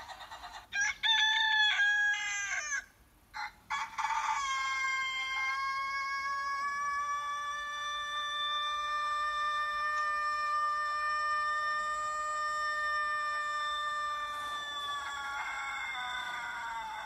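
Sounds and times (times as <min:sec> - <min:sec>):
rooster crow through phone speaker: 0:00.7 - 0:17.0.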